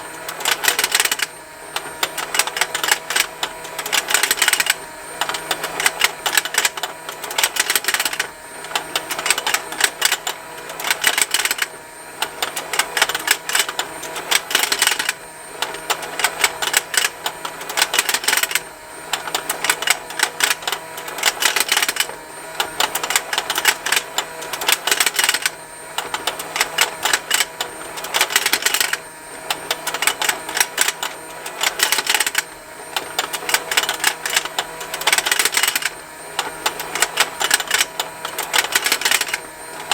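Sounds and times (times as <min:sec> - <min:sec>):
small toy motor hum: 0:00.0 - 0:39.9
rapid plastic ticking and snapping: 0:00.3 - 0:39.9.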